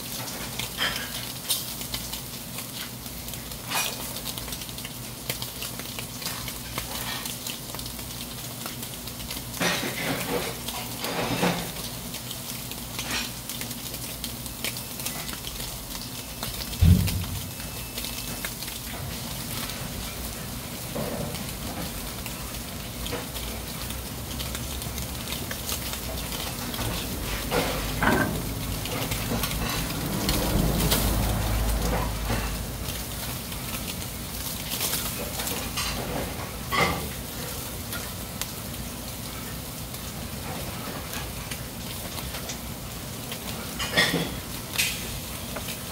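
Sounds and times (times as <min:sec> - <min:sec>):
fat crackling and popping: 0:00.0 - 0:45.9
fish sizzling on charcoal grill: 0:00.0 - 0:45.9.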